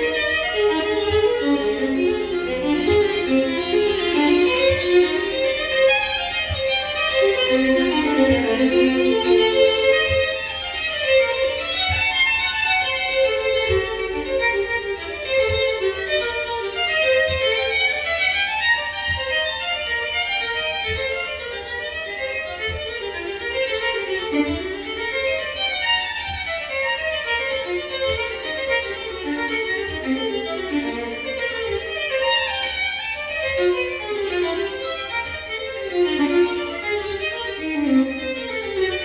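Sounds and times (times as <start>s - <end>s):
record surface ticks and pops: 0.0s - 39.0s
violin music on vinyl: 0.0s - 39.0s.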